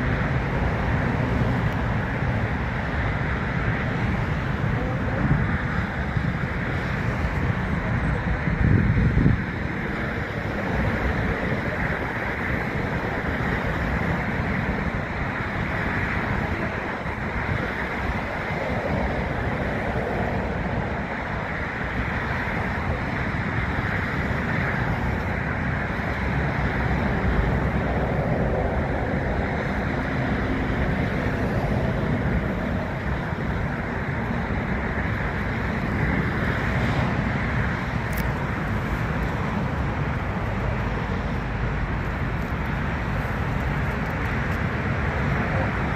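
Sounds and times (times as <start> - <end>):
distant jet airliners rumbling: 0.0 - 45.9
wind buffeting microphone: 0.0 - 45.9.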